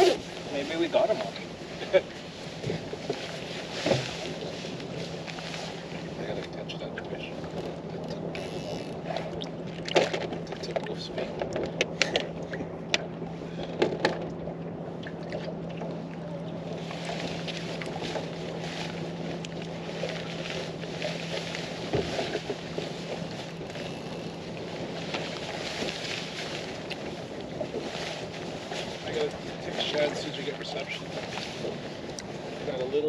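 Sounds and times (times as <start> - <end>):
choppy water against boat: 0.0 - 33.0
steady low hum: 0.0 - 33.0
wind: 0.0 - 33.0.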